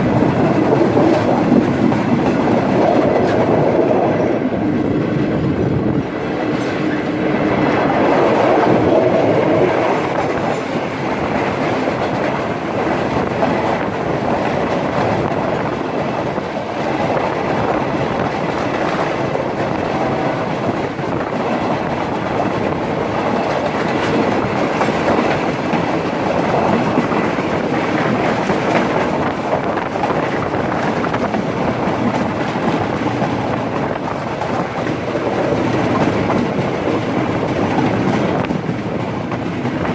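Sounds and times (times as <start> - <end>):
train rumbling: 0.0 - 39.9
wheels clattering on track: 0.0 - 39.9.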